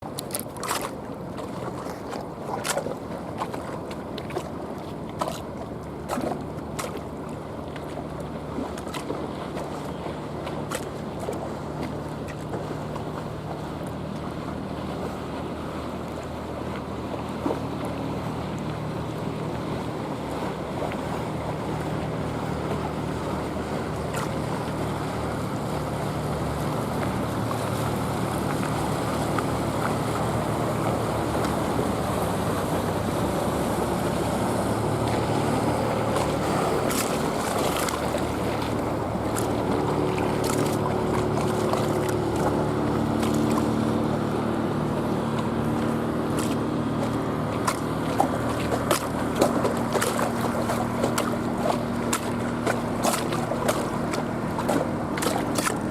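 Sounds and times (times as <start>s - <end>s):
boat engines running: 0.0s - 55.9s
engine hum: 0.0s - 55.9s
water lapping: 0.0s - 55.9s.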